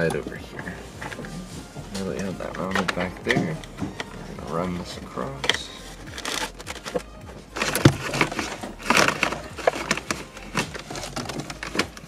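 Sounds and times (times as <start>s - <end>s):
wire scraping against plastic: 0.0s - 12.0s.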